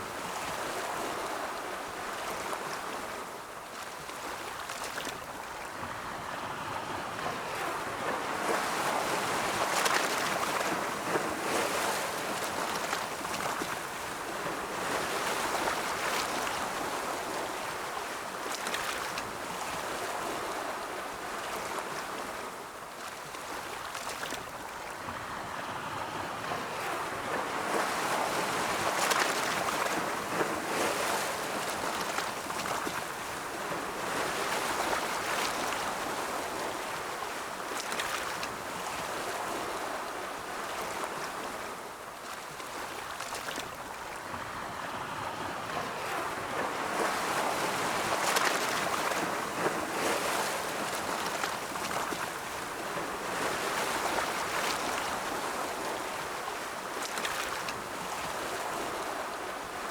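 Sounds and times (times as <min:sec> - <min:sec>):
ocean waves rolling in: 0:00.0 - 0:59.9.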